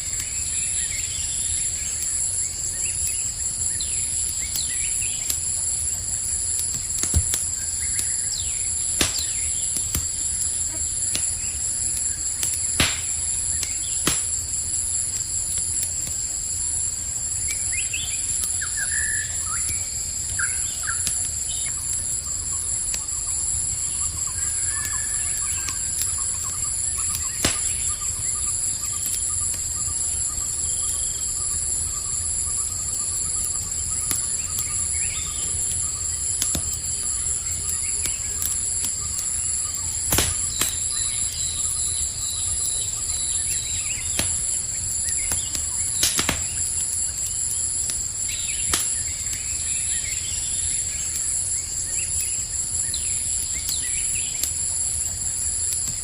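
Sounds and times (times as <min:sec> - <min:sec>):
campfire crackling: 0:00.0 - 0:56.0
crickets chirping: 0:00.0 - 0:56.0.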